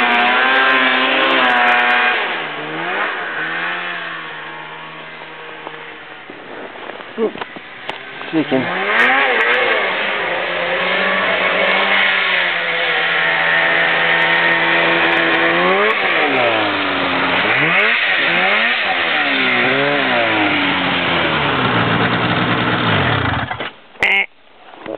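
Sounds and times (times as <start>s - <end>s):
snowmobile engine revving: 0.0s - 24.2s.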